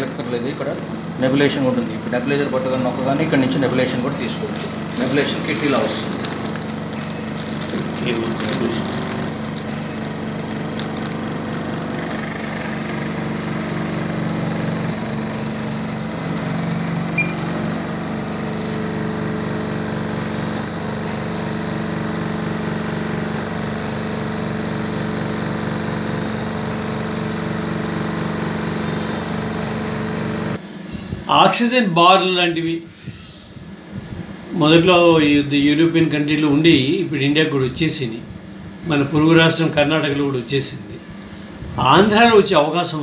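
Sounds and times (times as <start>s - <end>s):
pulsing compressor hum: 0.0s - 43.0s.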